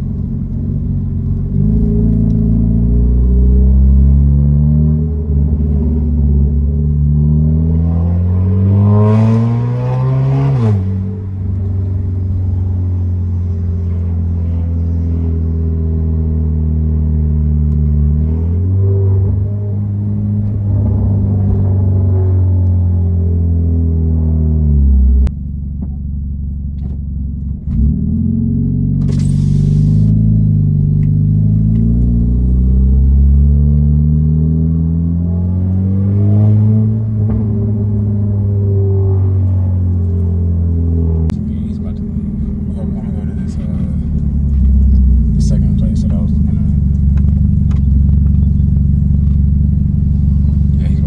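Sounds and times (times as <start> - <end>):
car exhaust running: 0.0 - 51.0.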